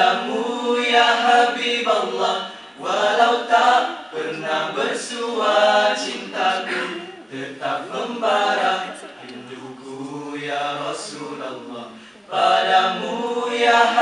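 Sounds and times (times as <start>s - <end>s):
men singing a cappella: 0.0s - 14.0s.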